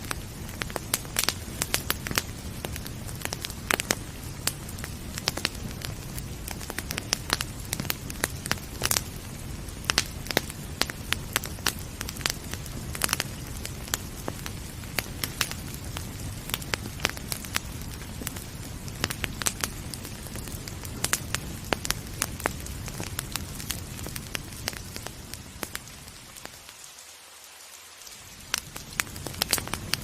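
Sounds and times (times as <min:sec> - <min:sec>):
low rumble of burning: 0:00.0 - 0:26.8, 0:28.1 - 0:30.0
wood fire crackling and popping: 0:00.0 - 0:26.9, 0:28.0 - 0:30.0.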